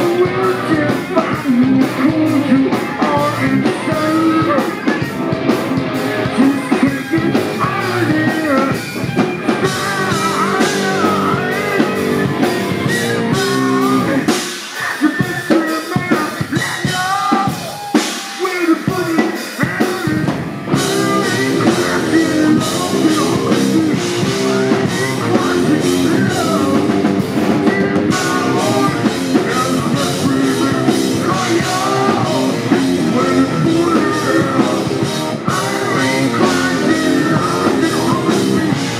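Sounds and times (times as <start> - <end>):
distorted electric guitars: 0.0 - 38.9
drum kit: 0.0 - 38.9
heavy rock band playing: 0.0 - 38.9
sung vocals: 0.0 - 38.9.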